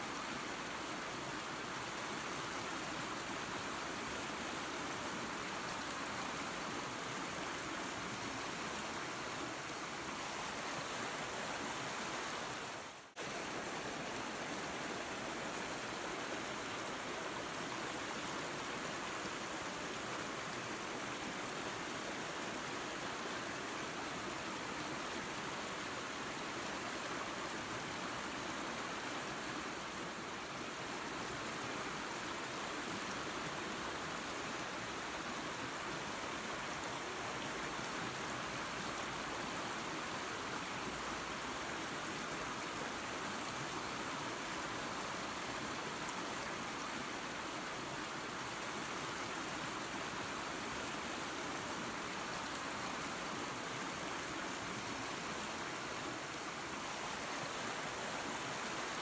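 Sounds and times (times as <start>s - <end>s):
waterfall and creek rushing: 0.0s - 59.0s.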